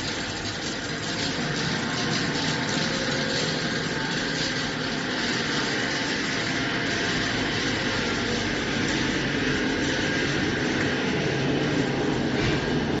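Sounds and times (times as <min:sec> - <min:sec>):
machine fans and conveyor whirring: 0:00.0 - 0:13.0.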